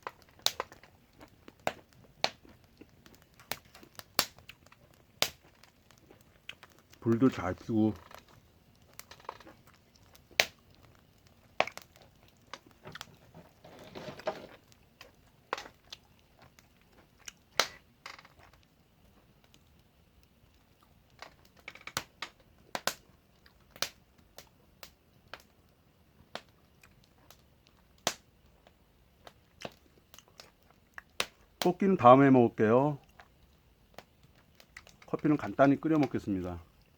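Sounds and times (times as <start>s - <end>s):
crunchy chewing: 0.0s - 31.6s, 33.0s - 35.3s.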